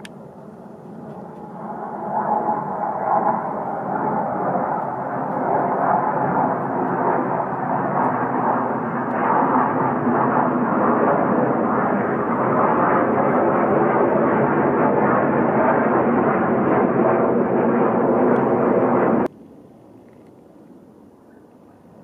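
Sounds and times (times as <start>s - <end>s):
jet flying overhead: 0.0s - 22.0s.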